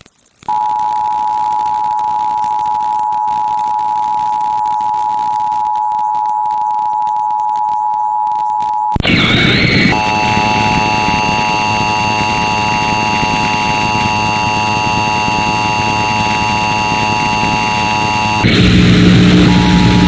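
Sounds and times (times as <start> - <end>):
radio static hiss: 0.4 - 20.0
two-tone alert signal buzzing: 0.5 - 20.0.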